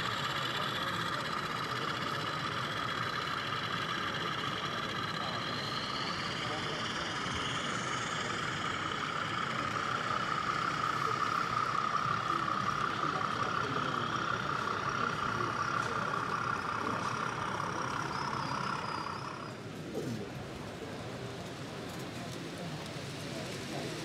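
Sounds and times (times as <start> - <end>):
model locomotive engine hum: 0.0 - 24.0.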